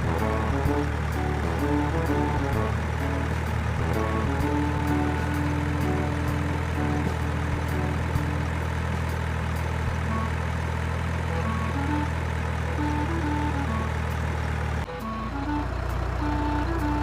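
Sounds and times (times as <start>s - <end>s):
faint stepping melody notes: 0.0s - 17.0s
truck engine idling: 0.0s - 17.0s.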